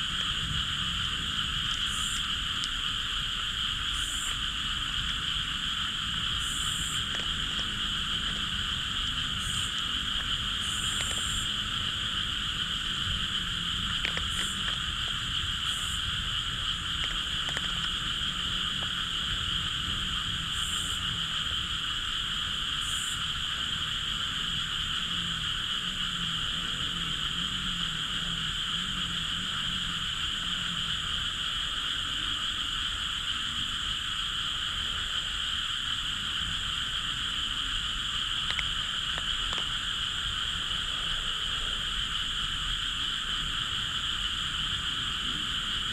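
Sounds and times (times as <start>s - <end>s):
frogs trilling chorus: 0.0s - 45.9s.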